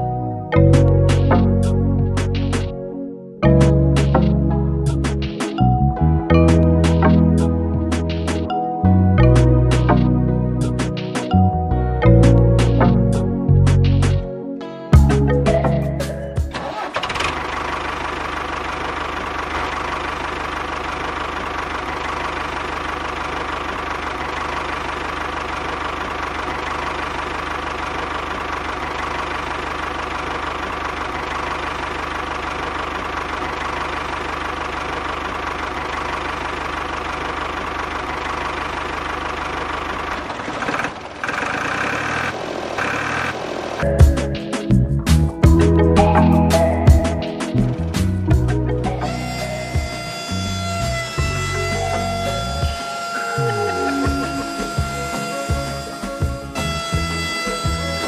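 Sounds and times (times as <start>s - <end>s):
tractor engine running: 0.0s - 2.8s, 3.4s - 14.3s, 14.9s - 58.0s.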